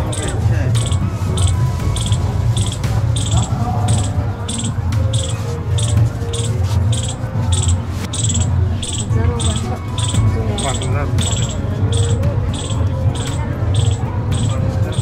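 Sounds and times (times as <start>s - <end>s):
cricket chirping: 0.1s - 15.0s.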